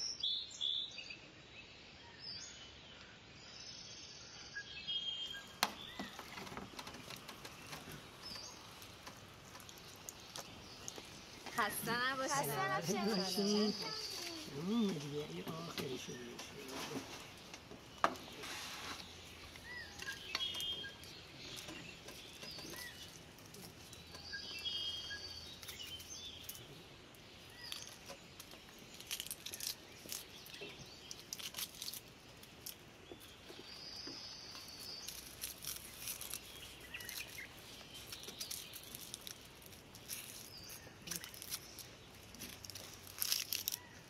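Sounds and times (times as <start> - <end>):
birds chirping: 0.0 - 44.0
onion skins crackling: 5.3 - 44.0.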